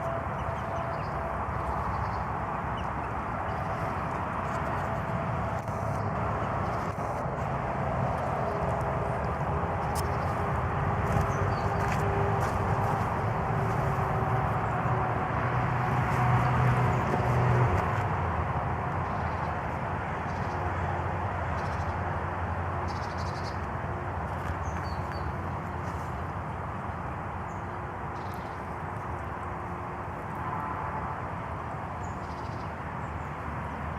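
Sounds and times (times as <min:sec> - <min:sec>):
low outdoor rumble: 0:00.0 - 0:31.8.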